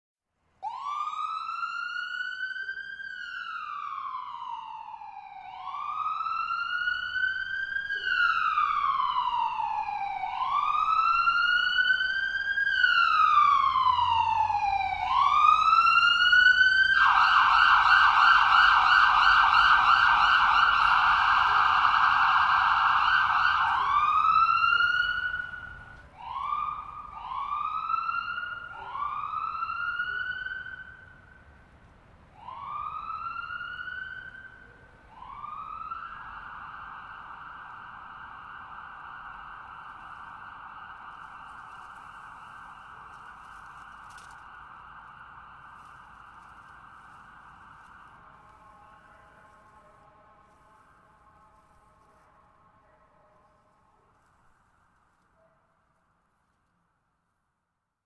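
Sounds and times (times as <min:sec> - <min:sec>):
ambulance siren wailing and yelping: 0:00.6 - 0:31.5, 0:32.3 - 0:51.0.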